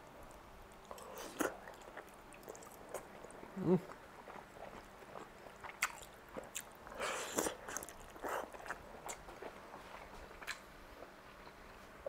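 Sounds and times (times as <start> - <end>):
wet chewing of noodles: 0.2 - 11.6.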